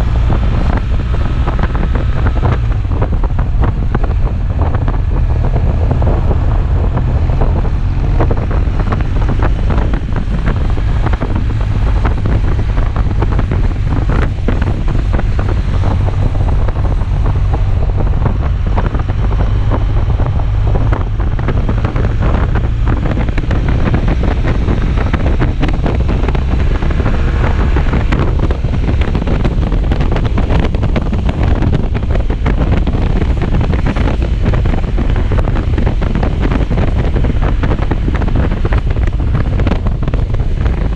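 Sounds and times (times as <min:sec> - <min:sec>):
motorcycle road and engine noise: 0:00.0 - 0:40.9
wind buffeting microphone: 0:00.0 - 0:40.9.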